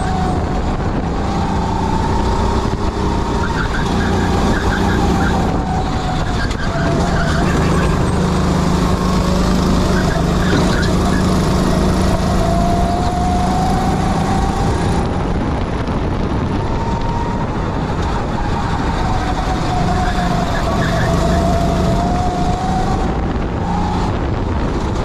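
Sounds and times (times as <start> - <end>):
kart engine running hard: 0.0 - 25.0.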